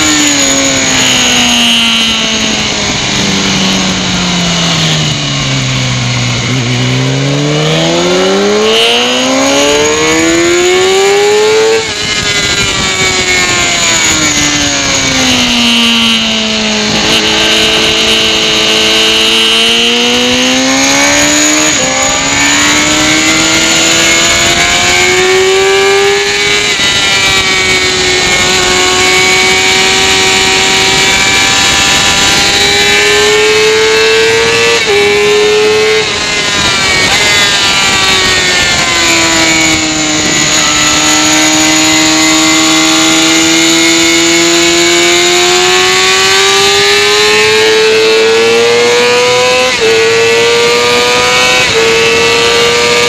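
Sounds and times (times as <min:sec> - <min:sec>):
motorcycle engine at high revs: 0:00.0 - 0:53.0
wind rush on microphone: 0:00.0 - 0:53.0.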